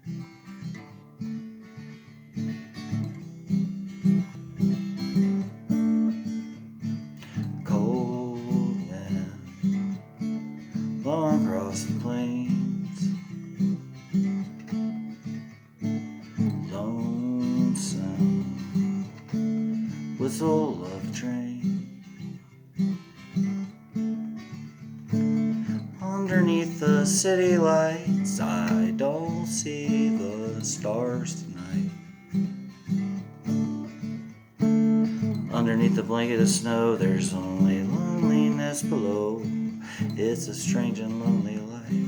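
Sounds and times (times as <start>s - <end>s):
sliding guitar melodic phrases: 0.0s - 42.0s
strummed acoustic guitar: 0.0s - 42.0s.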